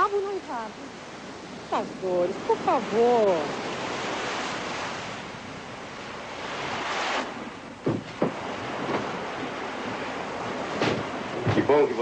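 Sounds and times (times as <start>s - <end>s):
sea surf: 0.0s - 12.0s
wind: 0.0s - 12.0s.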